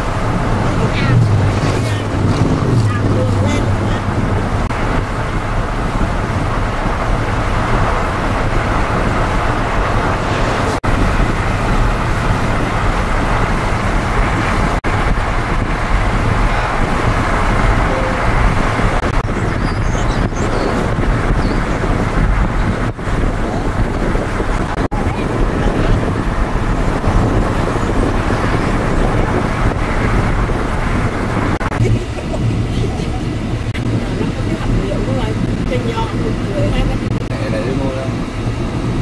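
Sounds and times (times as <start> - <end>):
car road and wind noise: 0.0 - 39.0
deep rumble: 0.0 - 39.0.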